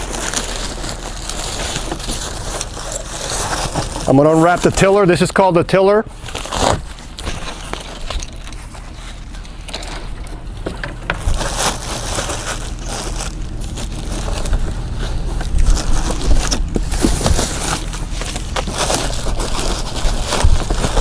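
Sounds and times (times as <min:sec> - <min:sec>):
scrapes and crackles: 0:00.0 - 0:05.3, 0:06.2 - 0:21.0
plastic wrapping and foam crinkling: 0:00.0 - 0:21.0.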